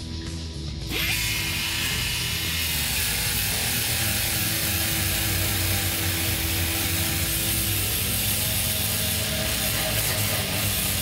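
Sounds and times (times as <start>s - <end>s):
abrasive wheel stripping metal: 1.1s - 11.0s.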